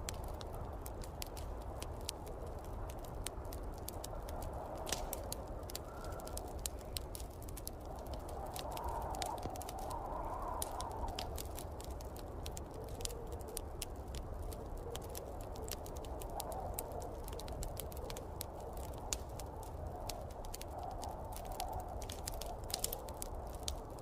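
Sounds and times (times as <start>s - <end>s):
snowstorm wind: 0.0s - 24.0s
wood fire crackling and popping: 0.0s - 24.0s.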